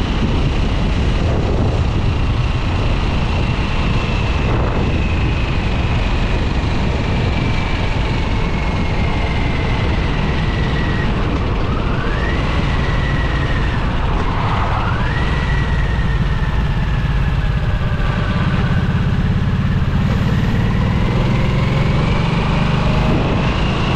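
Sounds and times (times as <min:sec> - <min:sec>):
motorcycle engine: 0:00.0 - 0:23.9.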